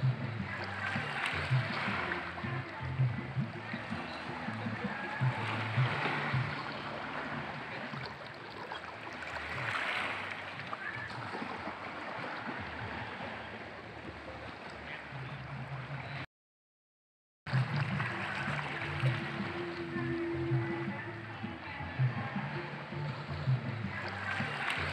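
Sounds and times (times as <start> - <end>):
small waves lapping on rocks: 0.0 - 16.0, 17.5 - 24.9.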